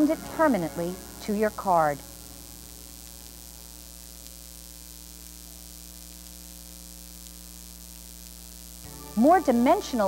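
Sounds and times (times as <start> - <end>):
electrical mains hum: 0.0 - 10.0
faint hiss: 0.0 - 10.0.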